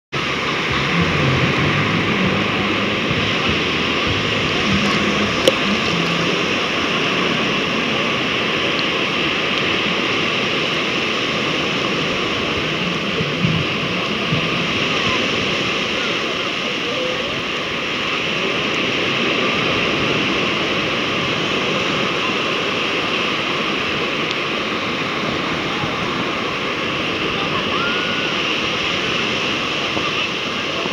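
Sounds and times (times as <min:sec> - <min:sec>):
waves washing on sandy beach: 0:00.1 - 0:30.9.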